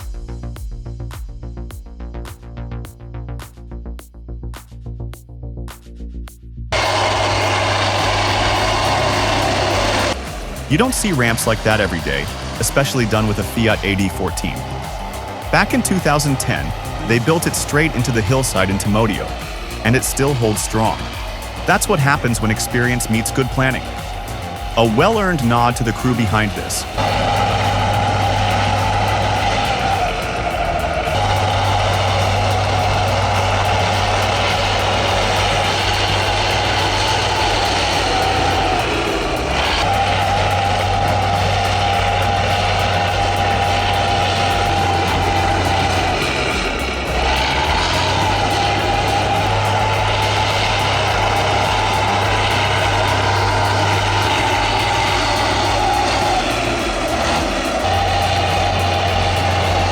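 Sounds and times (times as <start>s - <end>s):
bulldozer diesel engine under load: 6.7s - 59.9s
steady whine: 6.7s - 59.9s.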